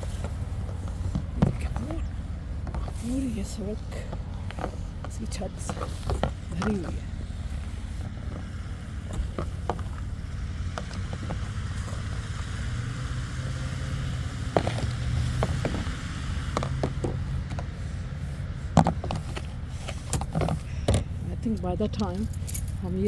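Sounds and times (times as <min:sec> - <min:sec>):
motor vehicle engine rumble: 0:00.0 - 0:23.0.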